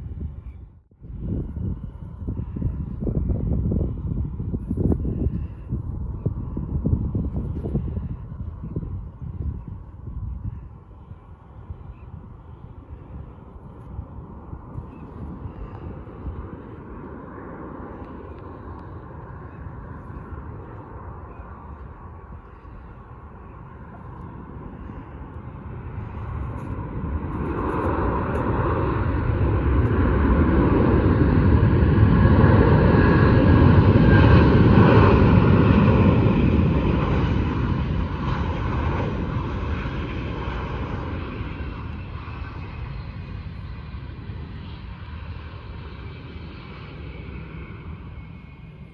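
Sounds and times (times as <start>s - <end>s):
jet airliner landing: 0.0s - 48.9s.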